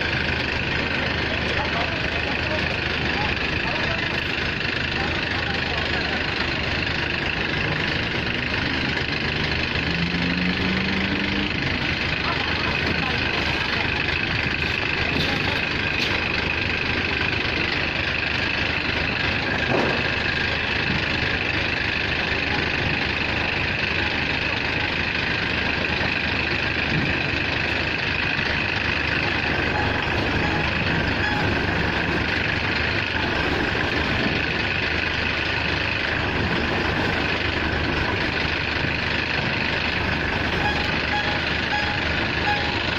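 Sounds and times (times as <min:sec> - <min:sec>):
combine harvester engine: 0:00.0 - 0:42.9.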